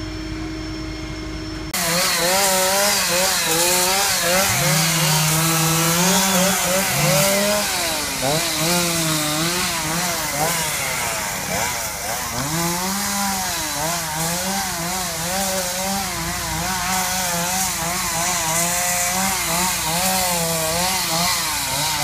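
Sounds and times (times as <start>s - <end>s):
chainsaw cutting wood: 1.7s - 22.0s.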